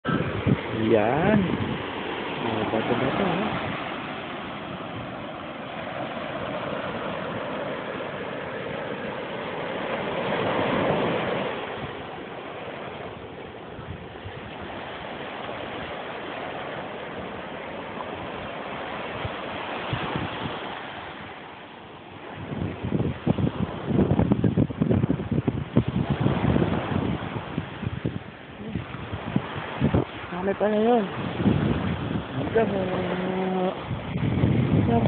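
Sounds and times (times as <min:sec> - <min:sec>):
sea waves on rocky shore: 0:00.0 - 0:35.0.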